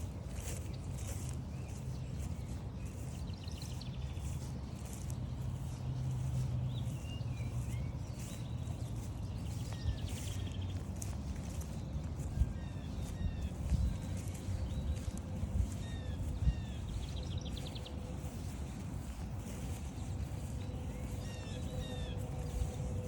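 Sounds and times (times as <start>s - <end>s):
footsteps on forest trail: 0.0s - 23.0s
steady low rumble: 0.0s - 23.0s.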